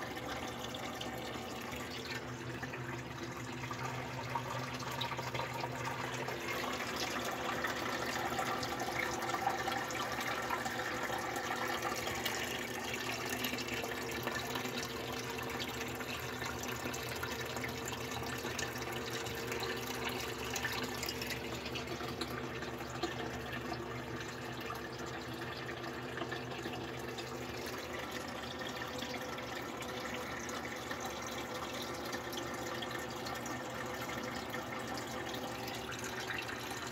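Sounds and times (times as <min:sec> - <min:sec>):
water trickling in aquarium: 0:00.0 - 0:36.9.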